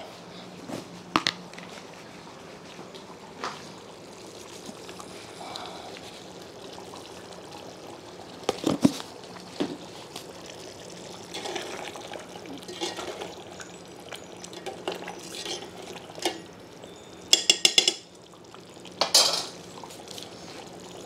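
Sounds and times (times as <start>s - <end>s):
gravy bubbling: 2.4s - 21.0s.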